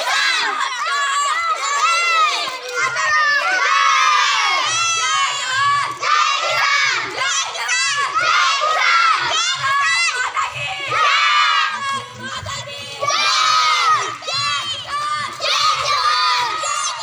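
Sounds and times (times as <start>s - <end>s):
children shouting together: 0.0s - 17.0s.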